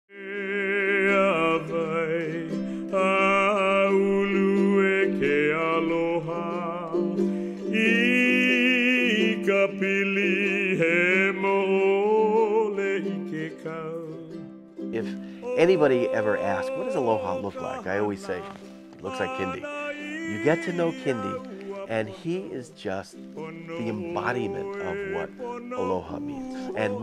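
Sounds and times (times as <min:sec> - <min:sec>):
person singing with vibrato: 0:00.1 - 0:27.0
string accompaniment: 0:00.1 - 0:27.0.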